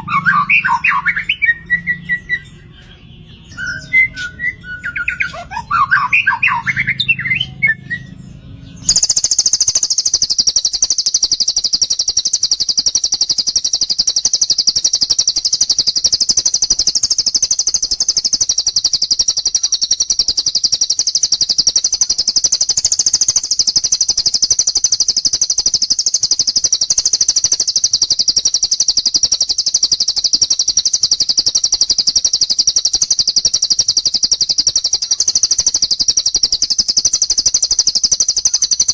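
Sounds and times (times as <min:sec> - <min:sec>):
bird whistling notes: 0:00.0 - 0:38.9
rapid high-pitched bird trill: 0:00.0 - 0:38.9.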